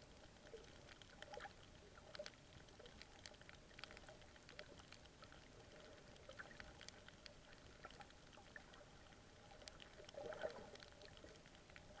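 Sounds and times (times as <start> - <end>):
snapping shrimp clicks underwater: 0.0 - 12.0
underwater rustle: 0.0 - 12.0.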